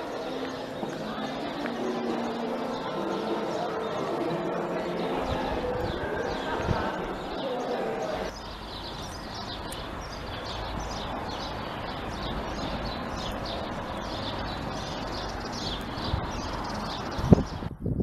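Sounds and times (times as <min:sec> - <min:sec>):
small birds chirping: 0:00.0 - 0:17.8
outdoor background noise: 0:00.0 - 0:18.0.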